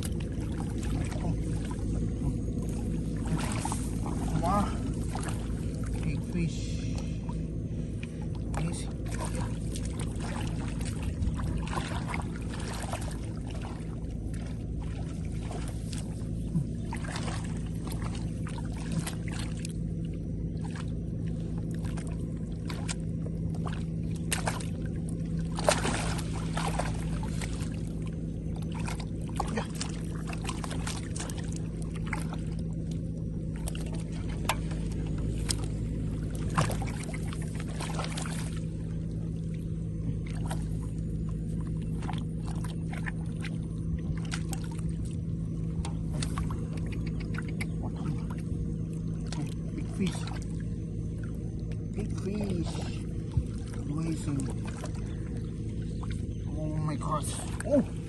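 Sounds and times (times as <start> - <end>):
water splashing: 0.0 - 58.0.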